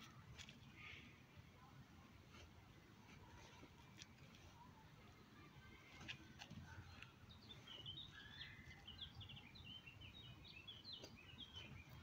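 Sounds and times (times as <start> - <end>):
songbird chirps and trills: 0.0 - 12.0.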